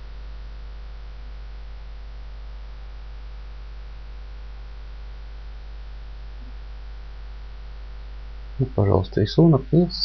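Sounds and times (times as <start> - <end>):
faint electrical hiss: 0.0 - 10.0
low mains hum: 0.0 - 10.0.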